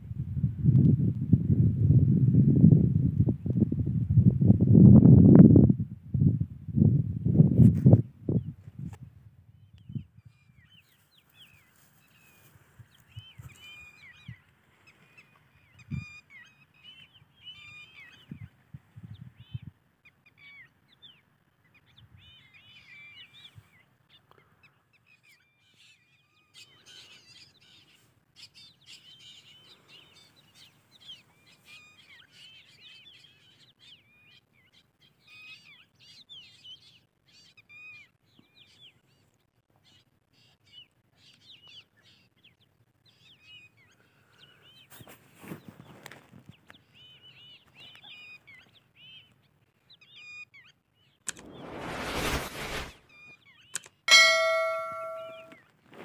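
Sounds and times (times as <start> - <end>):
small birds chirping: 9.6 - 55.8.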